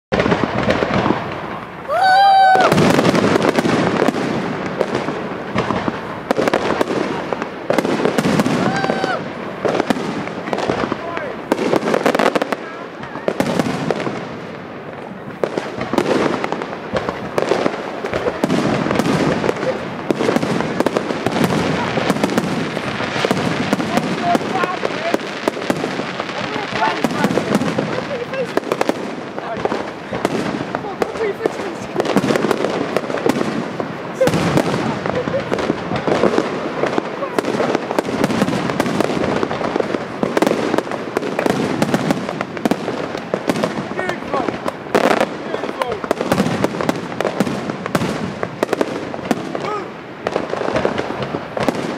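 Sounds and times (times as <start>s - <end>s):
fireworks bangs and cracks: 0.1s - 51.9s.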